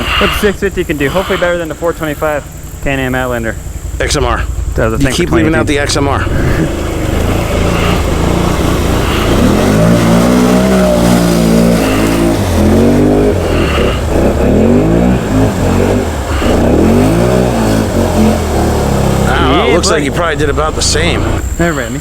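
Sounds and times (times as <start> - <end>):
atv engine revving: 0.0 - 22.0.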